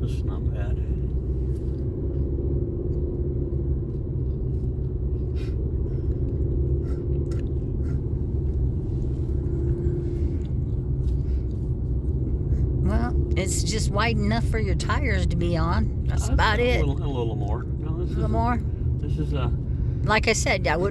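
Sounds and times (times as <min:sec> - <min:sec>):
car engine and road rumble: 0:00.0 - 0:20.9
constant hum: 0:00.0 - 0:20.9.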